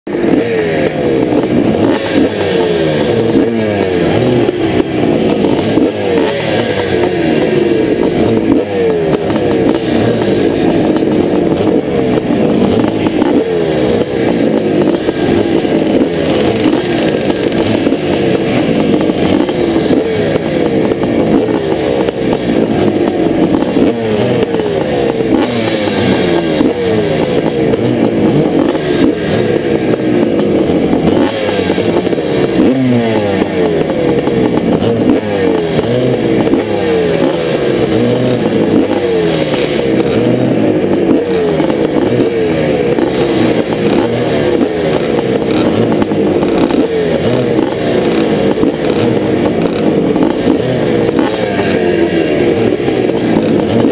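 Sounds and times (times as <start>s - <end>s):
motocross bikes revving: 0.0s - 53.9s.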